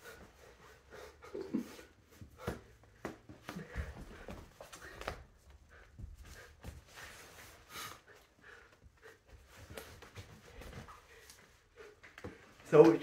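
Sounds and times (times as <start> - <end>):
rustling of socks and clothing: 0.0 - 13.0.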